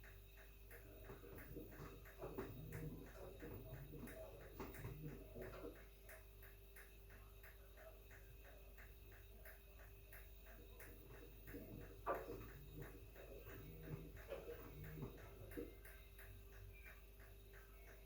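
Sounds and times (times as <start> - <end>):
faint ticking: 0.0 - 18.0.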